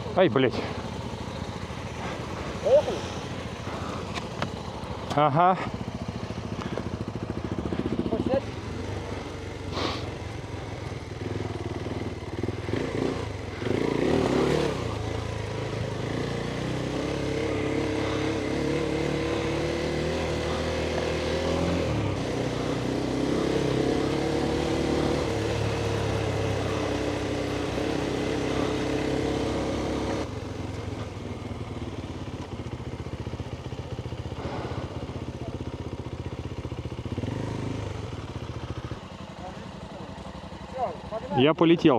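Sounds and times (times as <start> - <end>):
motorcycle engine revving: 0.0 - 41.5.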